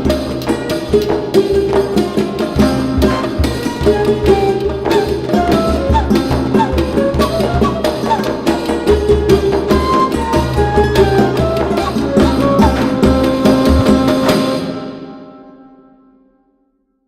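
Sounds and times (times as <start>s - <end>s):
cinematic music with hand drum: 0.0s - 15.3s.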